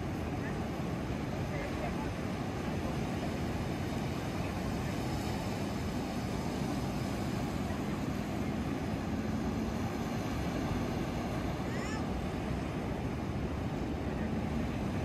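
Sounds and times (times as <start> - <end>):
surf along the beach: 0.0 - 15.0
wind: 0.0 - 15.0.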